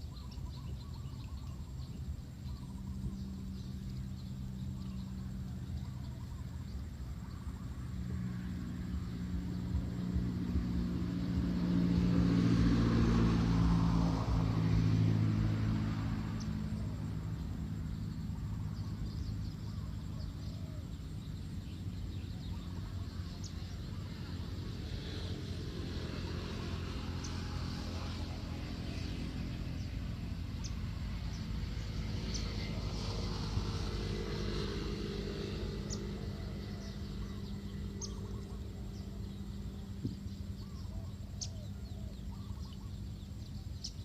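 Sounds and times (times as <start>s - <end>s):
passing vehicle engine hum: 0.0s - 44.0s.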